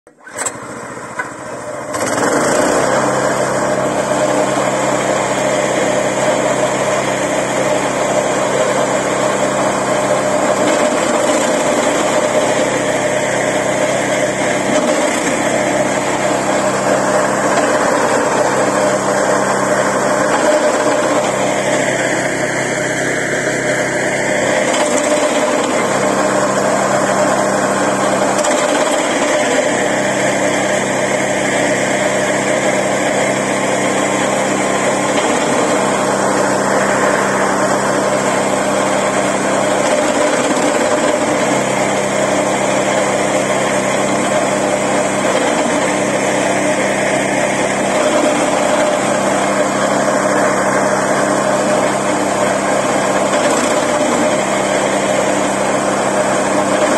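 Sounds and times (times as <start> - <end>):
small petrol engine running: 0.1 - 56.9.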